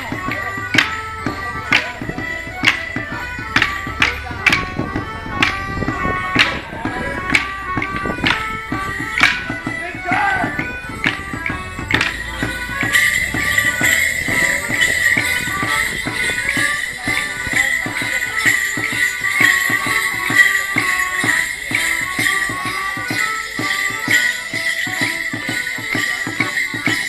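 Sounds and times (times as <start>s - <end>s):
band playing folk dance tune: 0.0s - 27.0s
leg bells jingling: 0.0s - 27.0s
steady drum beat: 0.0s - 27.0s.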